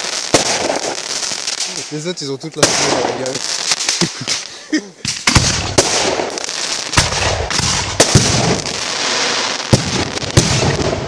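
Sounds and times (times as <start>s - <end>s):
firework bangs: 0.0s - 11.0s
fireworks crackling: 0.0s - 11.0s.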